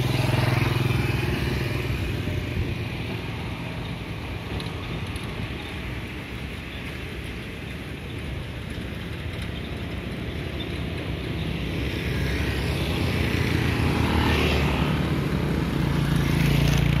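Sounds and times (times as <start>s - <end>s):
motor scooters passing: 0.0s - 17.0s.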